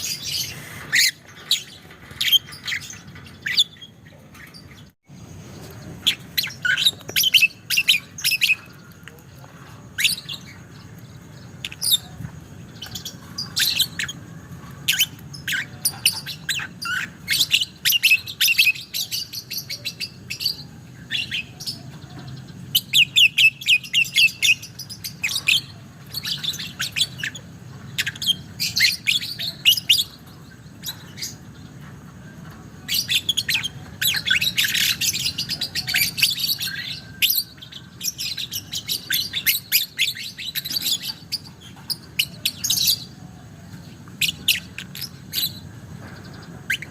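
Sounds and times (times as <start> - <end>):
lovebird chirping: 0.0 - 9.1, 9.8 - 31.8, 32.8 - 46.9.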